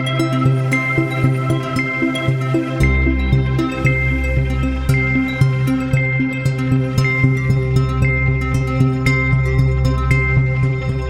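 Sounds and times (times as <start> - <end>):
electronic music with synths: 0.0 - 11.0.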